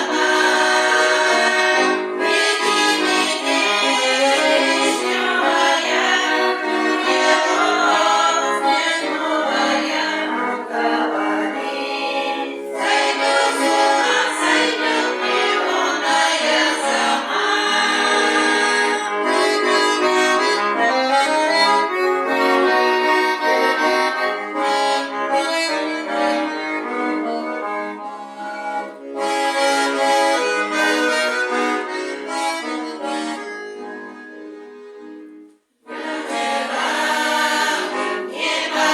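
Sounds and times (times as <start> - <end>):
accordion playing folk tune: 0.0 - 38.9.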